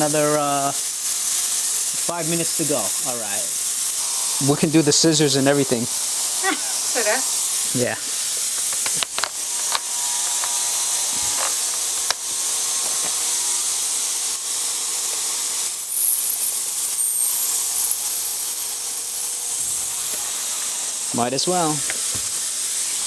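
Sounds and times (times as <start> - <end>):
ultrasonic cleaner hissing: 0.0 - 23.0.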